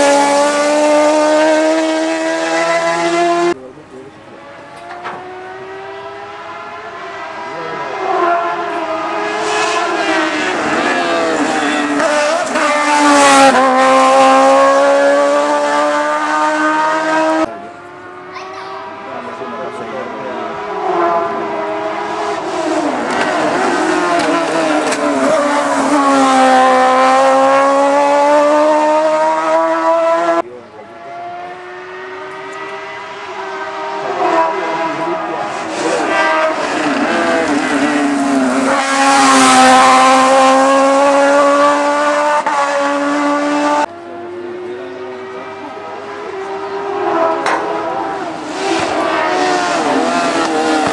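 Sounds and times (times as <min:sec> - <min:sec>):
rally car engine at high revs: 0:00.0 - 0:50.9.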